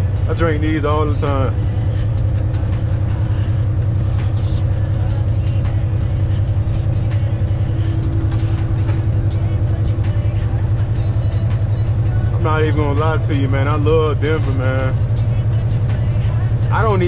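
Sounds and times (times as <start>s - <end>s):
background music: 0.0s - 17.0s
truck engine and road noise: 0.0s - 17.0s.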